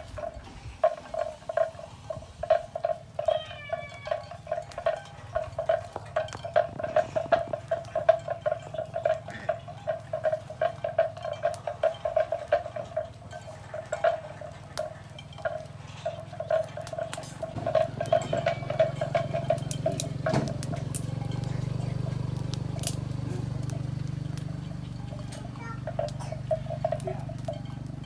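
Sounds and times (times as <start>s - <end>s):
wire grill clinking: 0.0s - 28.0s
wood fire crackling: 0.0s - 28.0s.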